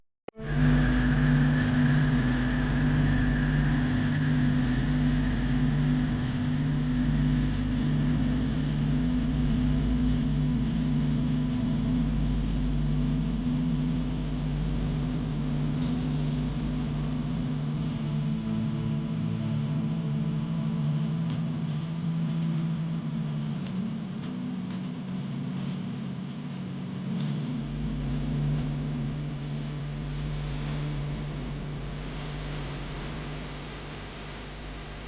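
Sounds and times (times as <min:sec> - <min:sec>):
boat engine droning: 0:00.3 - 0:23.6, 0:26.9 - 0:35.0.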